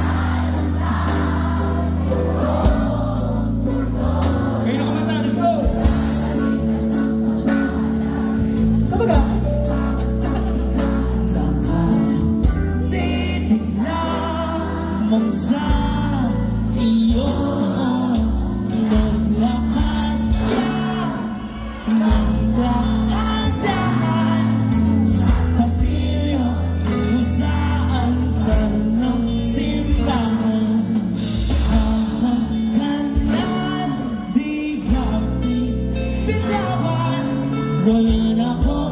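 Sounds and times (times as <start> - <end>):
live band playing: 0.0 - 38.9
person singing: 3.7 - 38.9.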